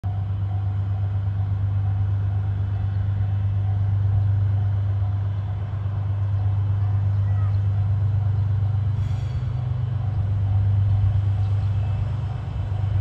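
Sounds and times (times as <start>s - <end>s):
locomotive engine drone: 0.0s - 13.0s.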